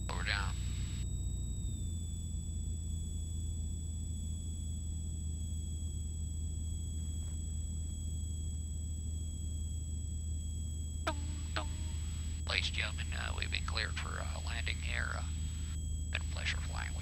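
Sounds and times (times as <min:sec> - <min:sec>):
high whine: 0:00.0 - 0:17.0
propeller plane engine droning: 0:00.0 - 0:17.0.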